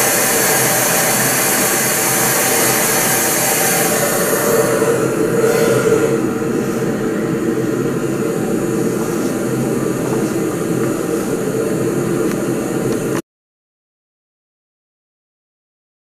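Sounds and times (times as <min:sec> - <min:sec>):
low drone: 0:00.0 - 0:13.2
muffled steady test noise: 0:00.0 - 0:13.2.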